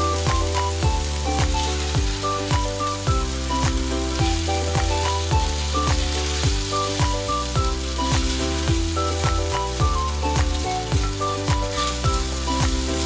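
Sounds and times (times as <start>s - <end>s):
background music with bass beat: 0.0s - 13.0s
chicken sizzling in a pan: 0.0s - 13.0s.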